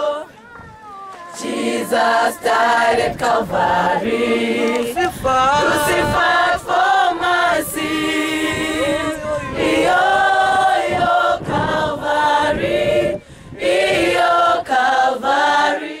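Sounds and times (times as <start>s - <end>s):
children's choir singing: 0.0s - 0.4s, 1.1s - 16.0s.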